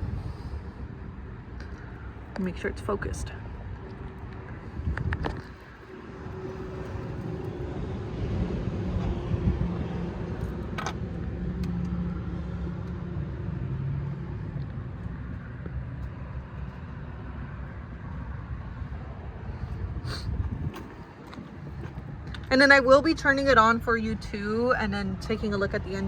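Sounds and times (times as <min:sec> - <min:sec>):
passing vehicle engine: 0:00.0 - 0:26.0
traffic rumble: 0:00.0 - 0:26.0.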